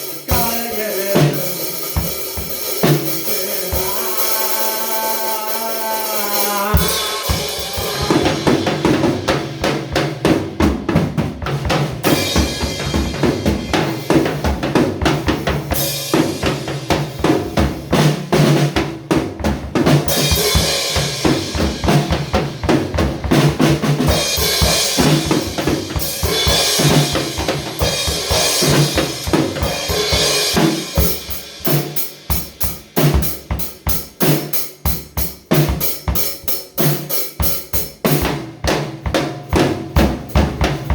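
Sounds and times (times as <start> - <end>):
instrumental band music with drums: 0.0 - 40.9.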